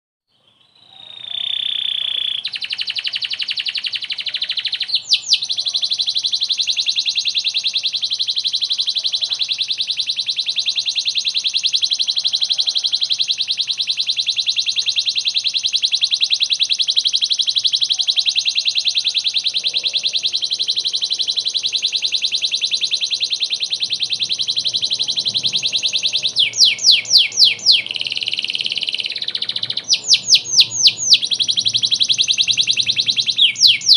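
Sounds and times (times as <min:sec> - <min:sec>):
canary singing: 0:00.3 - 0:33.9.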